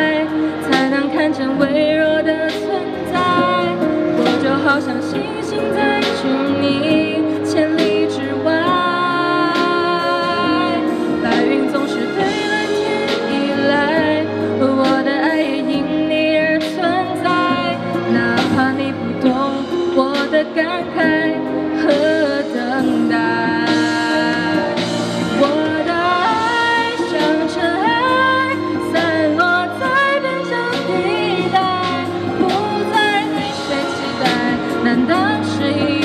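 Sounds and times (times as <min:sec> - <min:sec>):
instrumental accompaniment: 0:00.0 - 0:36.0
woman singing into microphone: 0:00.0 - 0:36.0.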